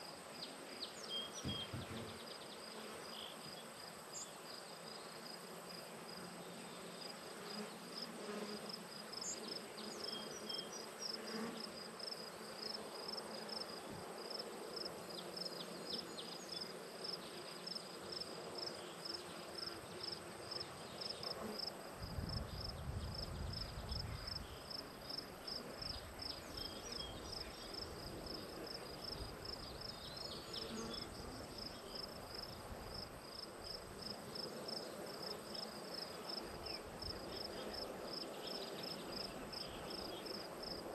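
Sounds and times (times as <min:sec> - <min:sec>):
faint outdoor hiss: 0:00.0 - 0:40.9.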